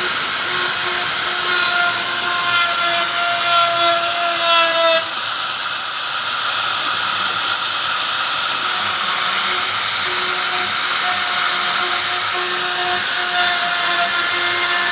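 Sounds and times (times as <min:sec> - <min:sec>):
router spindle cutting wood: 0:00.0 - 0:14.9.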